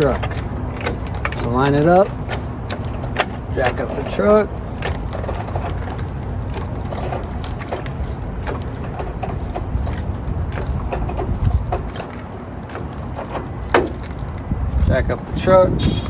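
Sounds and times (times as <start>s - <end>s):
jack pumping metallic clicks: 0.0s - 16.0s
steady low rumble: 0.0s - 16.0s.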